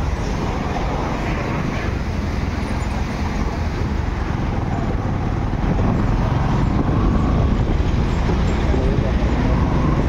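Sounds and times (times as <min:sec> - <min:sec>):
low rumble of ride: 0:00.0 - 0:10.0
vehicle engines running: 0:00.0 - 0:10.0.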